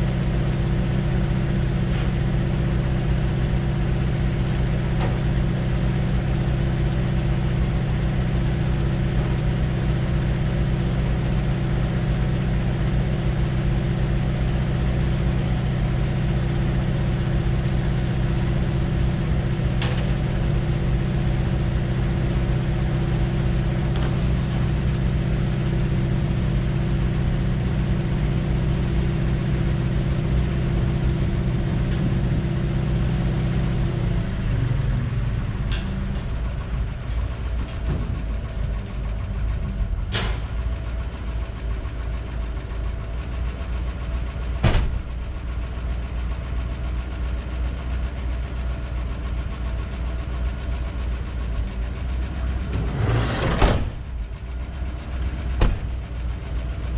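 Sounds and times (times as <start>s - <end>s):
van engine idling: 0.0s - 56.9s.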